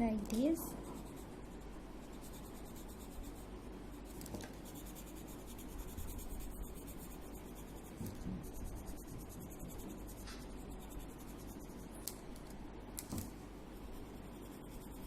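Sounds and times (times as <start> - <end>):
pencil scratching on paper: 0.7 - 12.1, 13.8 - 15.0.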